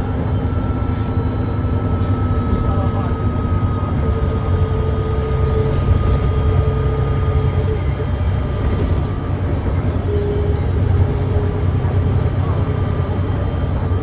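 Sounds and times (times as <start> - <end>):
bus diesel engine rumble: 0.0 - 14.0
faint steady whines: 0.0 - 14.0.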